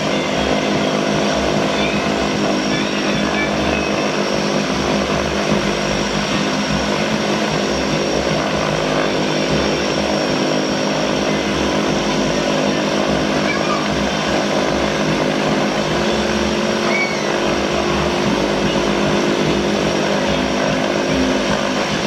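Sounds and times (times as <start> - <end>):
propeller drone: 0.0 - 22.0
turbine whine: 0.0 - 22.0.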